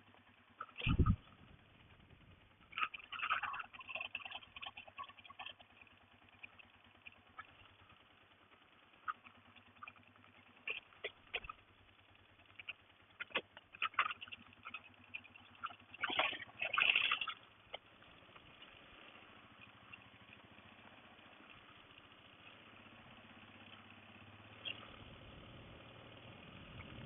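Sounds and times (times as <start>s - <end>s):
crackles and clicks: 0.0s - 25.1s
faint engine idling: 0.0s - 27.0s.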